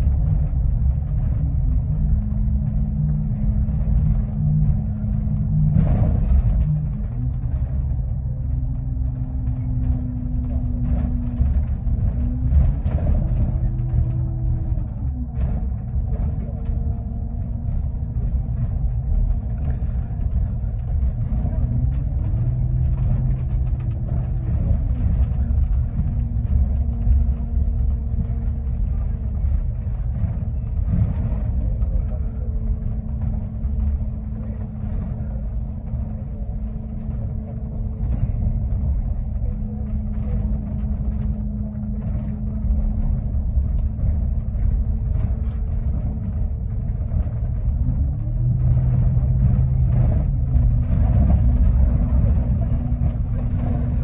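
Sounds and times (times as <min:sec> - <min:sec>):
bus engine rumble: 0:00.0 - 0:54.0
drivetrain whine: 0:00.0 - 0:54.0.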